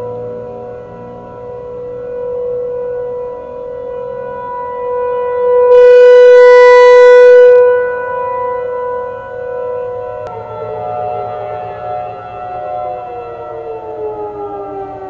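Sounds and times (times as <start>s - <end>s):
outdoor warning sirens: 0.0s - 15.0s.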